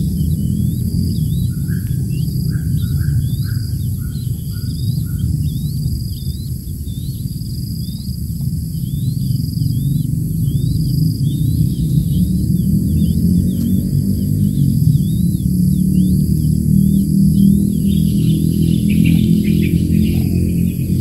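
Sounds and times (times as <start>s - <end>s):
soft bird notes: 0.0s - 21.0s
steady low rumble: 0.0s - 21.0s.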